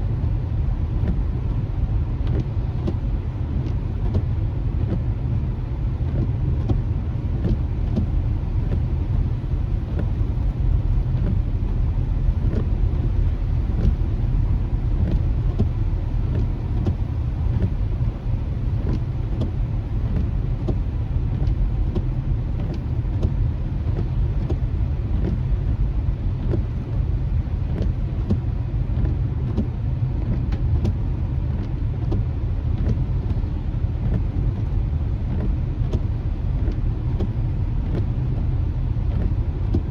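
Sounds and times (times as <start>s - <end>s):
car road noise rumble: 0.0s - 39.9s
light ticks: 0.9s - 39.9s.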